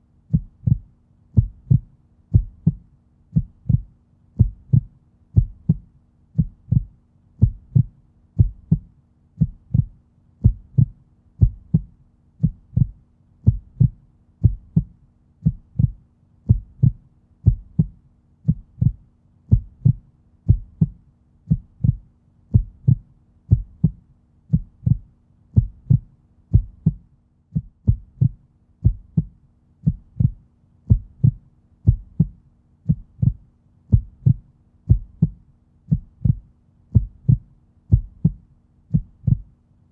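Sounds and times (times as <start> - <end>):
faint steady hum: 0.0 - 39.9
heartbeat thumps: 0.3 - 39.5.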